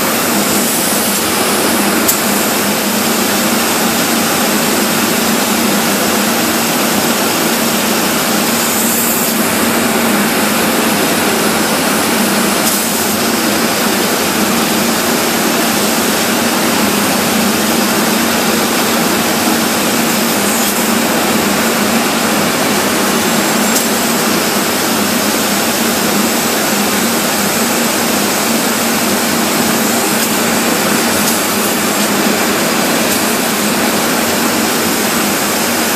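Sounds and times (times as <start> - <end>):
foam spray rig rushing hiss: 0.0 - 35.9.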